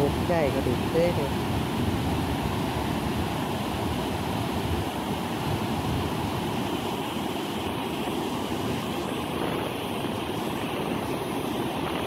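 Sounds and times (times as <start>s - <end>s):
water rushing over weir: 0.0s - 12.0s.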